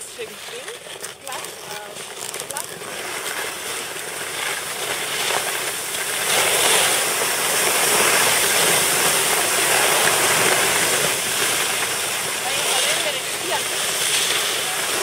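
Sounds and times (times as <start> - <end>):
skis sliding over snow: 0.0 - 15.0
wind on microphone: 0.0 - 15.0.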